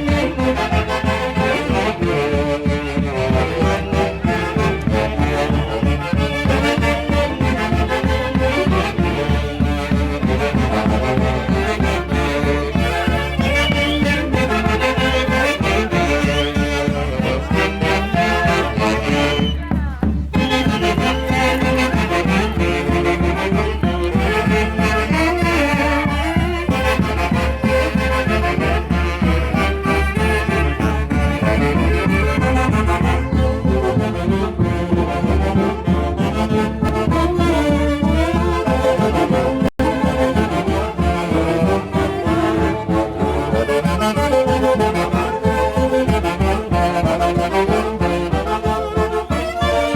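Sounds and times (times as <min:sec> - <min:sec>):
wind instrument melody: 0:00.0 - 0:49.9.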